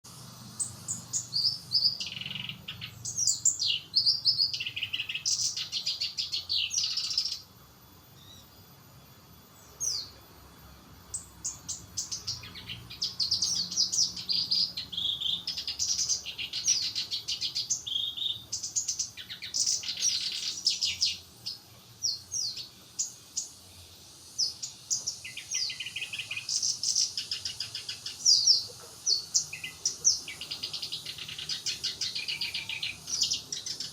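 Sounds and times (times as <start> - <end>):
warbler singing: 0.1 - 33.9.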